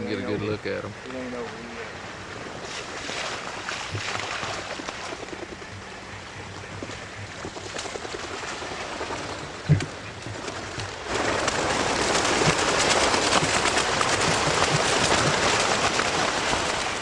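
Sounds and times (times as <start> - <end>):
rush of duck wings: 2.6 - 17.0.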